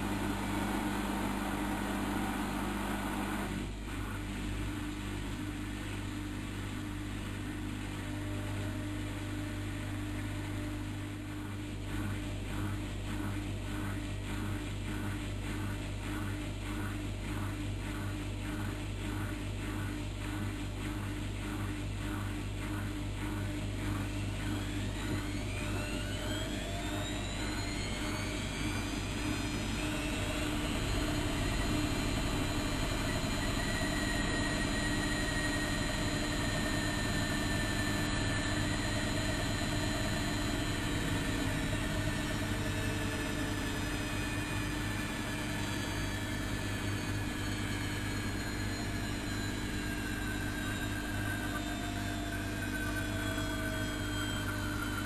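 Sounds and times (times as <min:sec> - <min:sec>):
washing machine motor whining: 0:00.0 - 0:55.0
low hum: 0:05.2 - 0:55.0.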